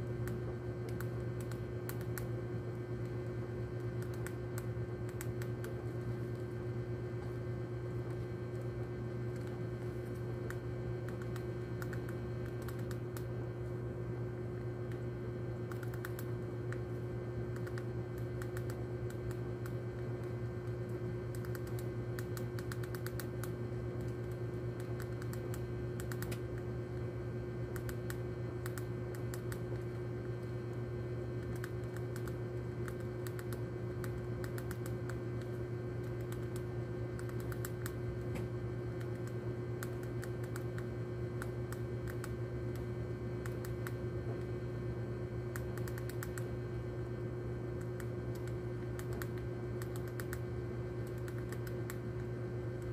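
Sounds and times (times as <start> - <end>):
rat gnawing pellets: 0.0 - 13.8, 14.8 - 44.6, 45.4 - 52.9
steady low hum: 0.0 - 52.9.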